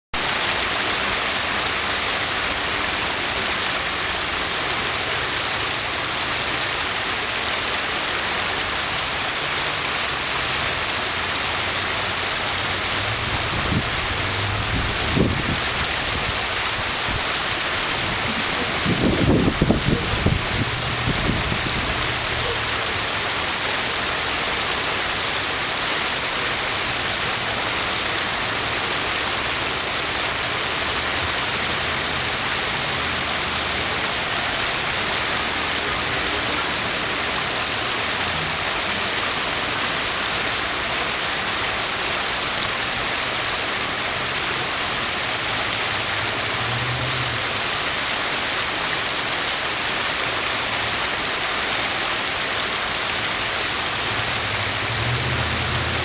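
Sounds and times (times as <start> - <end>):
creek water running over stones: 0.2 - 56.0.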